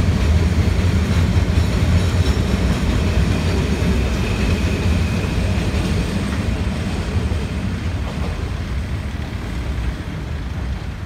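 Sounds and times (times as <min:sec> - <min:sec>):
freight wagons rolling on rails: 0:00.0 - 0:11.0.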